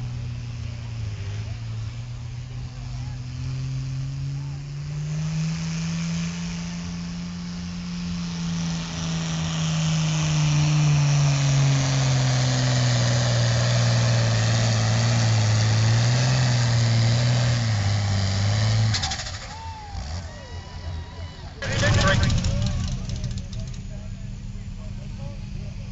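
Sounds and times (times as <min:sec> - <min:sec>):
diesel tractor engine roaring: 0:00.0 - 0:25.9.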